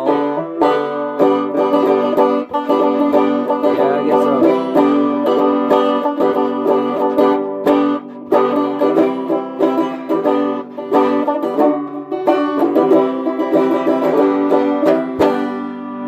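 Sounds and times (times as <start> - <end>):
banjo picked rapidly: 0.0 - 16.0.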